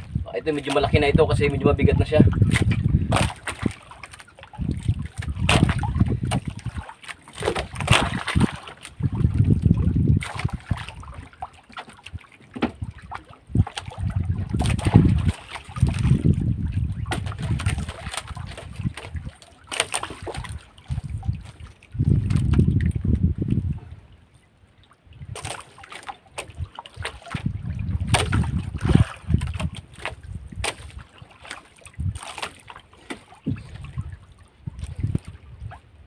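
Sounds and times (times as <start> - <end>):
sea water splashing against boat: 0.0 - 36.0.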